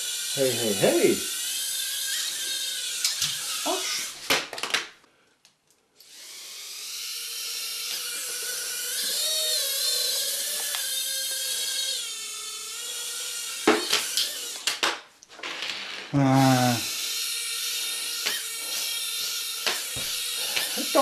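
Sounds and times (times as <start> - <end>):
small electric motors whining: 0.0 - 4.3, 6.0 - 14.9, 16.0 - 21.0.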